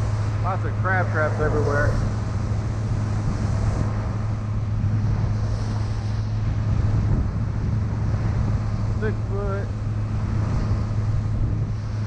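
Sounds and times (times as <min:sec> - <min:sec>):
motorboat engine humming: 0:00.0 - 0:12.0
water rushing past hull: 0:00.0 - 0:12.0
wind buffeting microphone: 0:00.0 - 0:12.0.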